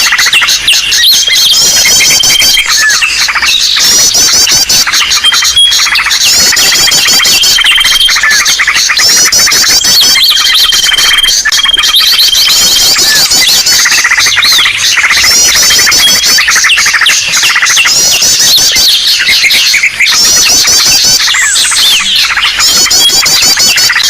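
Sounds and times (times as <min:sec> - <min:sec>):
many small birds chirping: 0:00.0 - 0:24.0.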